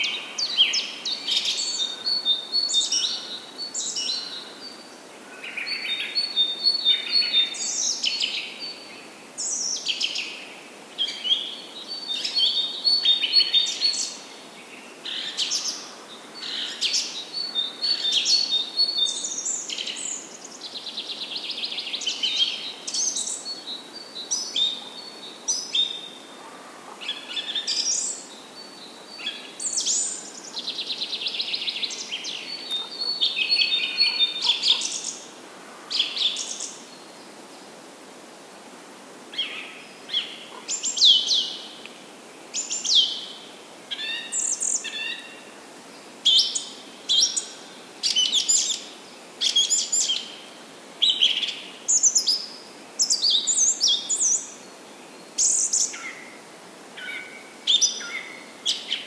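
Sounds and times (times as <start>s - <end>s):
birds singing and calling: 0.0s - 10.4s, 11.0s - 35.3s, 39.4s - 41.9s, 42.6s - 56.3s, 57.0s - 59.0s
faint steady hiss: 0.0s - 59.0s.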